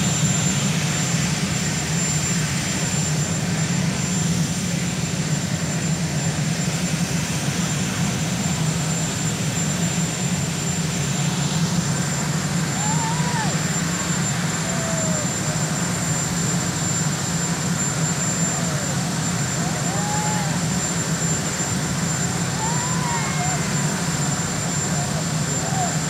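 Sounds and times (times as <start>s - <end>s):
helicopter rotors and turbines running: 0.0s - 26.0s.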